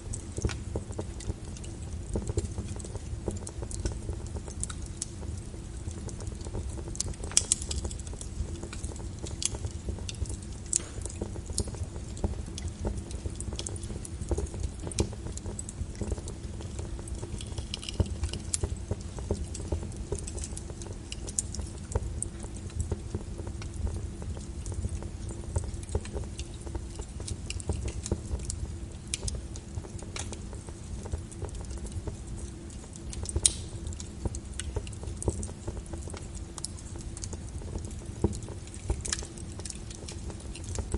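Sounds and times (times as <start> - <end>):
fireplace fire crackling and popping: 0.0 - 40.9.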